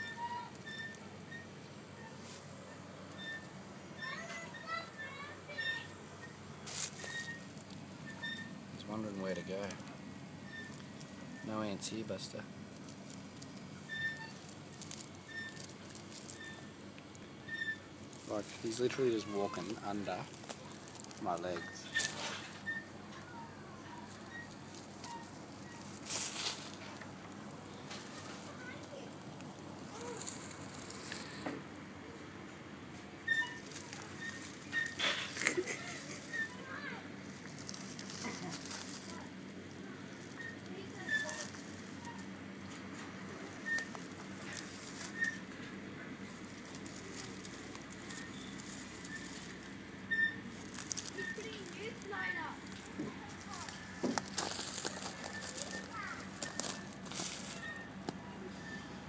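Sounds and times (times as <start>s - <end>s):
crunching rustle in leaves and gravel: 0.0s - 32.0s, 32.8s - 58.9s.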